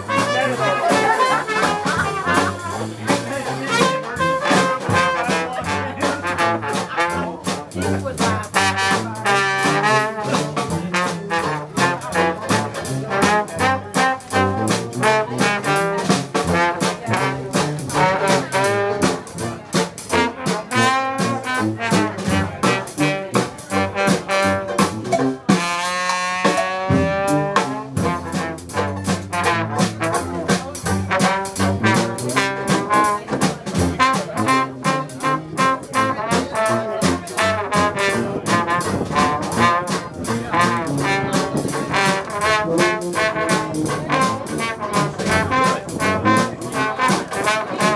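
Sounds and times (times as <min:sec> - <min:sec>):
jazz band playing: 0:00.0 - 0:47.9.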